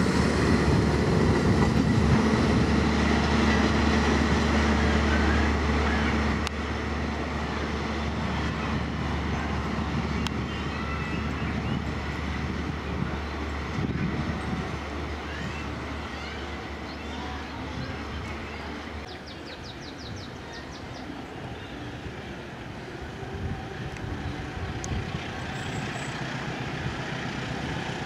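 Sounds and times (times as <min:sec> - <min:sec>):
train rolling past: 0:00.0 - 0:28.0.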